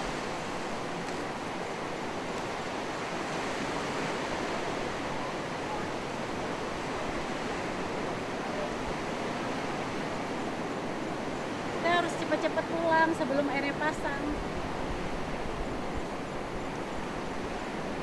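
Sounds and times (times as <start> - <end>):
waves breaking on rocky shore: 0.0 - 18.0.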